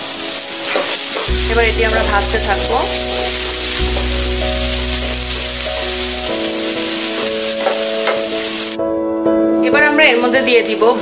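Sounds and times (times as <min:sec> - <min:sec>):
onion and garlic sizzling in oil: 0:00.0 - 0:08.8, 0:09.8 - 0:11.0
background music: 0:00.0 - 0:11.0.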